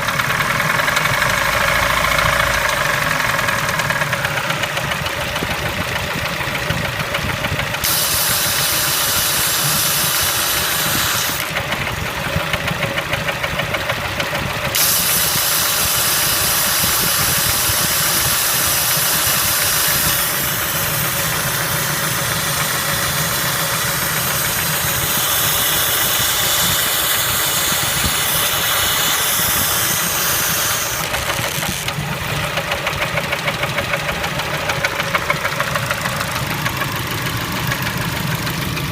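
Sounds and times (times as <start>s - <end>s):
car engine knocking: 0.0s - 7.9s, 11.4s - 14.8s, 15.4s - 30.2s, 30.8s - 38.9s.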